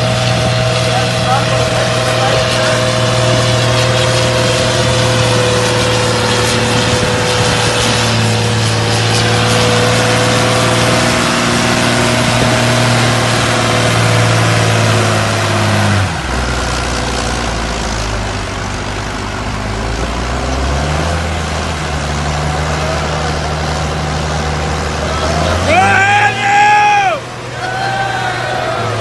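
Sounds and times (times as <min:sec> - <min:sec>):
tractor diesel engine running hard: 0:00.0 - 0:29.0.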